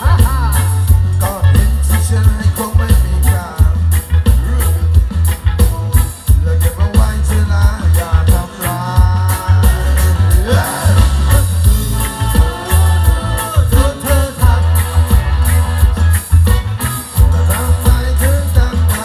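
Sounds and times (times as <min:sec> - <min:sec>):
acoustic guitar: 0:00.0 - 0:19.0
drums keeping a beat: 0:00.0 - 0:19.0
heavy bass: 0:00.0 - 0:19.0.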